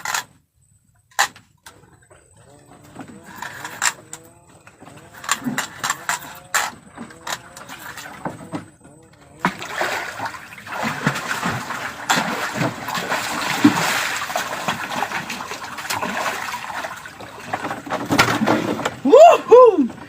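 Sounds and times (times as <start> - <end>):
fish thrashing and splashing water: 2.6 - 19.1.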